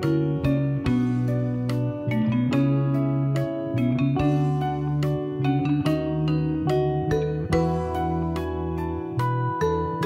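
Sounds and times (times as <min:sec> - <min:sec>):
instrumental tune over sustained bass: 0:00.0 - 0:10.0.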